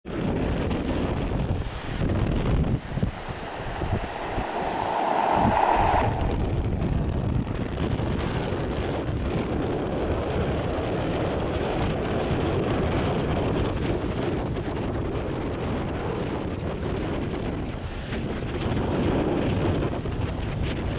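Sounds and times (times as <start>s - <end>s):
wind buffeting microphone: 0.1s - 20.6s.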